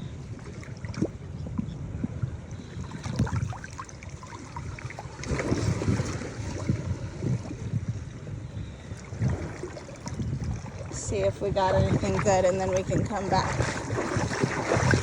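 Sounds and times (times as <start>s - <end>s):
seawater sloshing and splashing: 2.5s - 15.0s.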